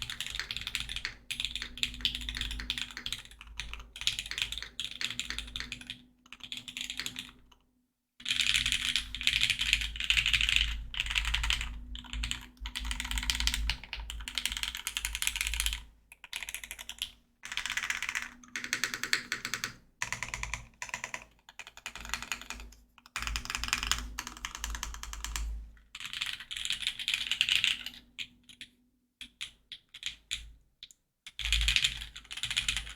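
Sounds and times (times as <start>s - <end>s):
fast typing on mechanical keyboard: 0.0s - 7.6s, 8.2s - 30.5s, 31.3s - 32.9s.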